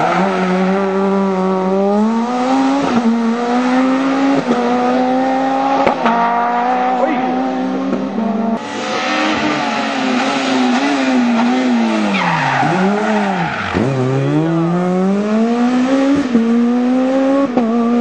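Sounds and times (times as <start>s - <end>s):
high-revving rally car engine: 0.0s - 18.0s.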